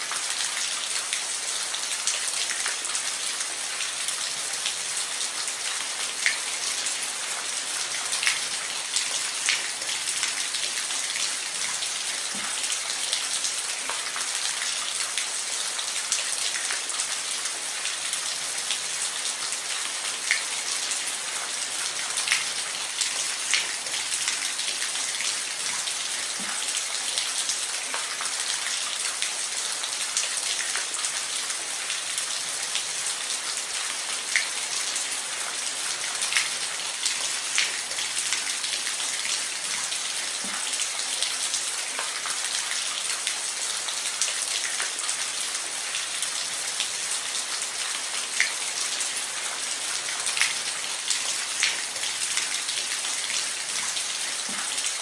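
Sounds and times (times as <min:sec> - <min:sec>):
rain falling on a roof: 0:00.0 - 0:55.0.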